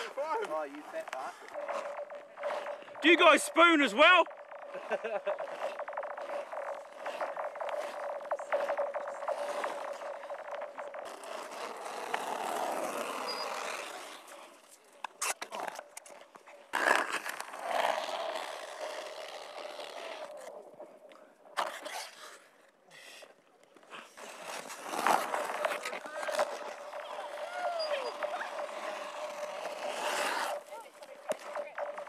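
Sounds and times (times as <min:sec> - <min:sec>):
ice skates scraping on ice: 0:00.0 - 0:20.8, 0:21.5 - 0:32.0.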